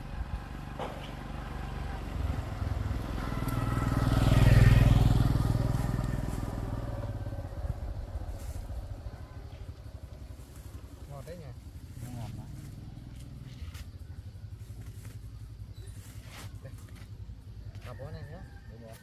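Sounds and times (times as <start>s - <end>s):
motor vehicle passing: 0.0s - 18.3s.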